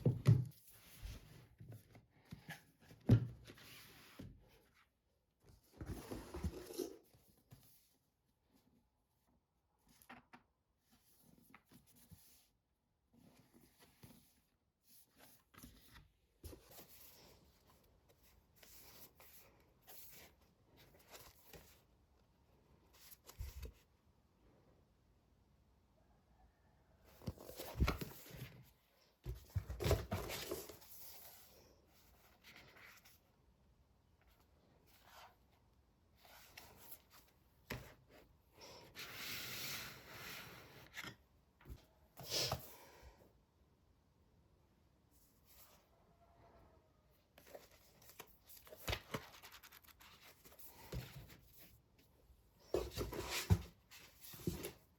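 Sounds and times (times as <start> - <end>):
faint rustling and handling: 0.0 - 24.2, 27.1 - 43.1, 47.2 - 54.9.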